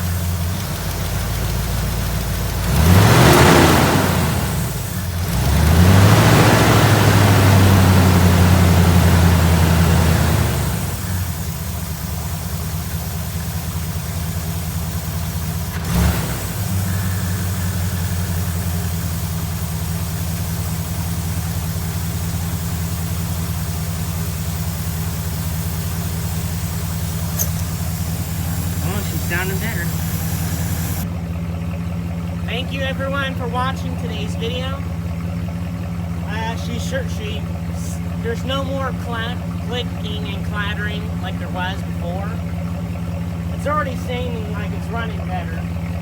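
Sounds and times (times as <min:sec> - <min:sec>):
car engine idling: 0:00.0 - 0:46.0
engine knock: 0:00.0 - 0:46.0.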